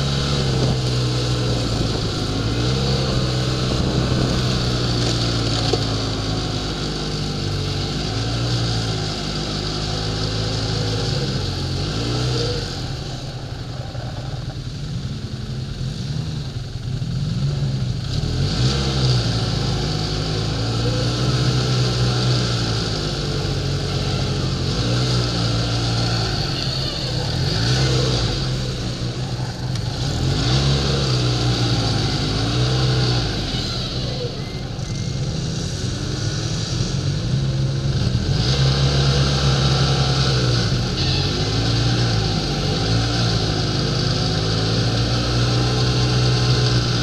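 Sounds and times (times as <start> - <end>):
snowmobile engine running: 0.0 - 47.0.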